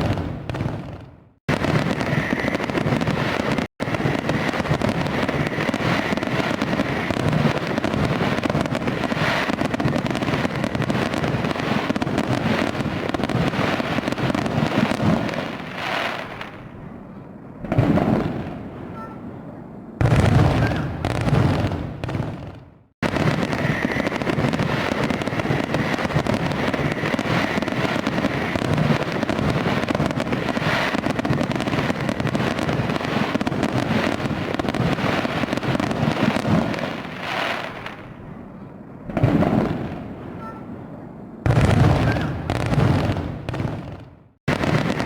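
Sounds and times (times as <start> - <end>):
loud firework bursts: 0.0 - 16.7, 17.6 - 19.4, 20.0 - 38.2, 39.0 - 40.8, 41.4 - 45.0
fireworks crackling and popping: 0.0 - 16.8, 17.6 - 18.7, 20.0 - 38.2, 39.1 - 40.1, 41.5 - 45.0.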